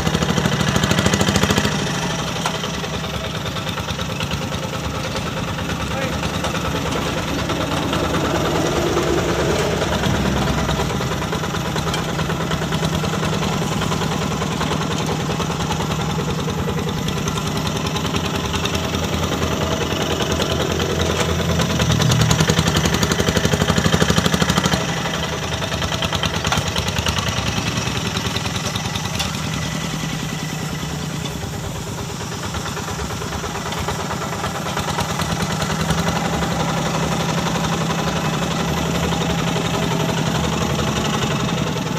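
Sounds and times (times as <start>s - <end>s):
hand tractor diesel engine running: 0.0s - 41.9s.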